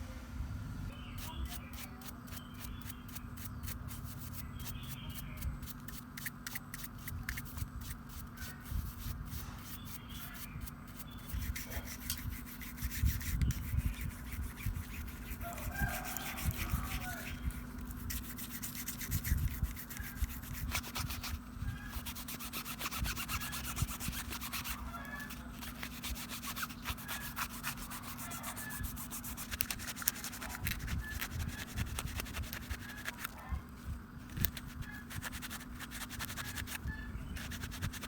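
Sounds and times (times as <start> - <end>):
brush scrubbing back and forth: 1.2 - 38.0.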